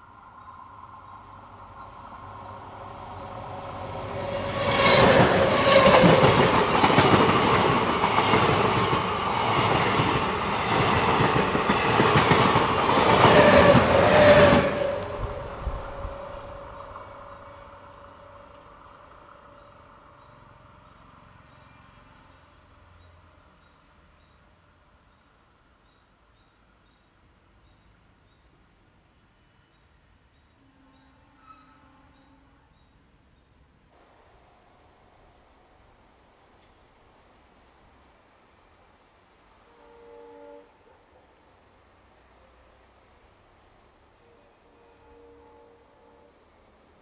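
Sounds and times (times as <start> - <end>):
train passing at speed: 0.0 - 26.0, 33.9 - 47.0.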